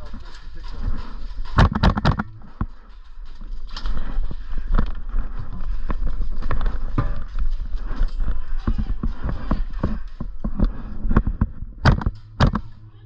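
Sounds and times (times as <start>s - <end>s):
footsteps and gear knocks: 0.0s - 13.0s
steady low rumble: 0.0s - 13.0s.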